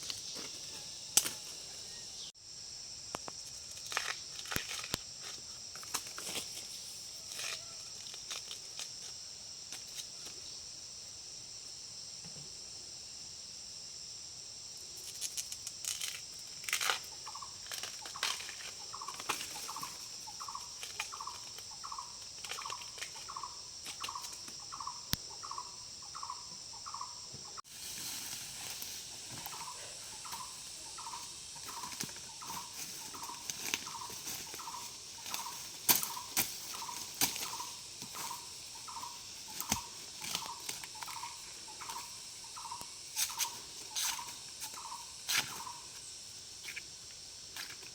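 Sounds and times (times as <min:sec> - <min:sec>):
high insect drone: 0:00.0 - 0:47.9.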